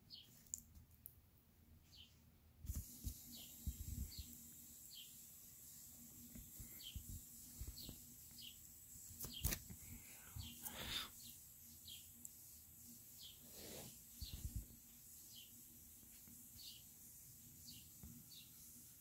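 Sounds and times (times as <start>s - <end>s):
small bird chirping: 0.0s - 0.7s, 1.8s - 2.2s, 2.8s - 18.9s.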